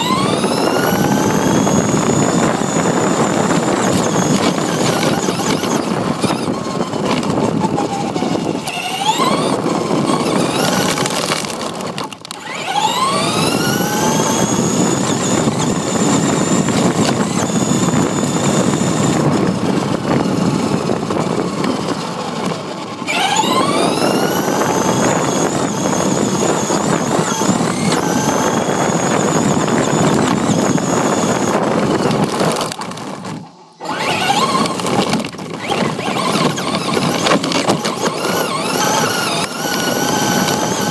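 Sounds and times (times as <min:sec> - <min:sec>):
rc car motor whining: 0:00.0 - 0:40.9
tyres rumbling on pavement: 0:00.0 - 0:40.9.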